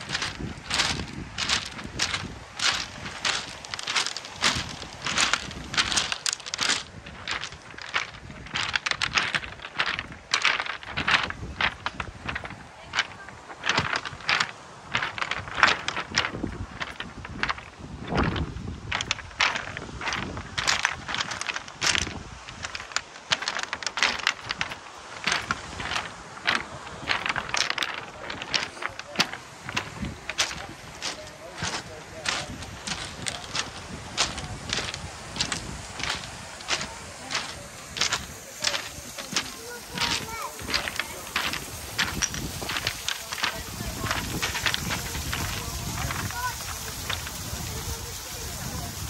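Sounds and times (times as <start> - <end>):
footsteps crunching on pebbles: 0.0 - 49.0.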